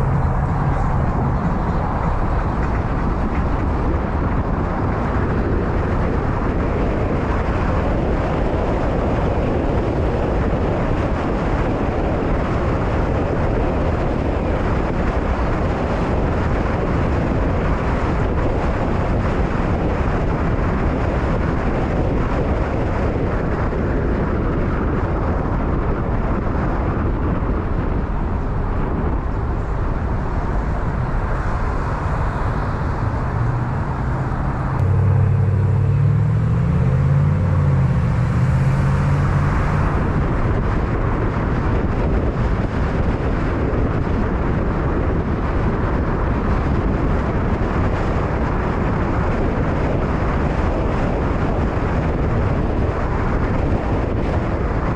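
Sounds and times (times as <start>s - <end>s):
road and traffic noise: 0.0s - 54.9s.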